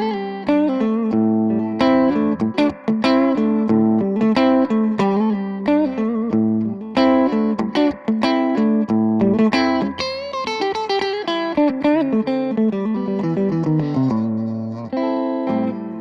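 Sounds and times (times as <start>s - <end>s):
electric guitar through amplifier: 0.0s - 16.0s.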